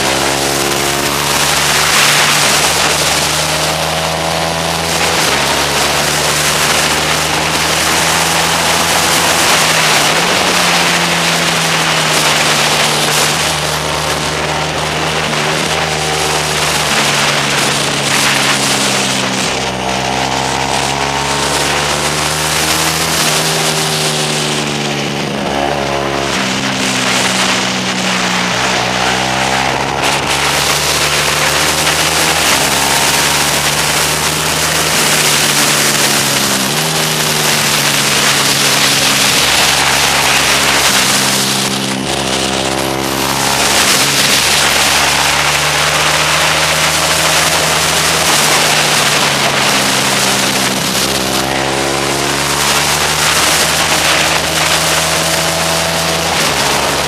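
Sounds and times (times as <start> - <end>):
motorcycle engine revving: 0.0 - 57.0
wind rush over microphone: 0.0 - 57.0.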